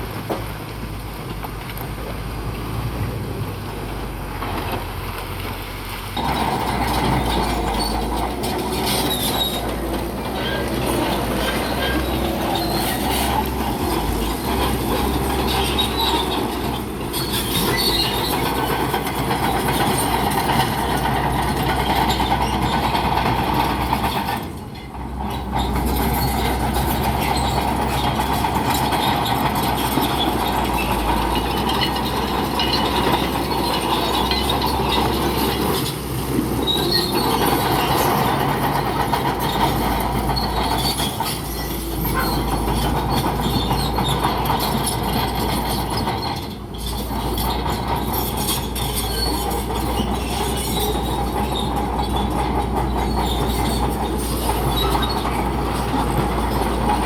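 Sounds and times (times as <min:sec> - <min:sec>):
bulldozer engine rumbling: 0:00.0 - 0:57.0
steel tracks clanking and squealing: 0:06.1 - 0:57.0.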